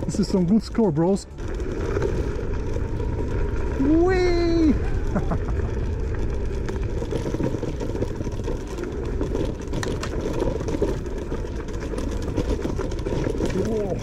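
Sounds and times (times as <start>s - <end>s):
scooter rumbling over rough trail: 0.0s - 14.0s
sharp rattles: 0.0s - 14.0s.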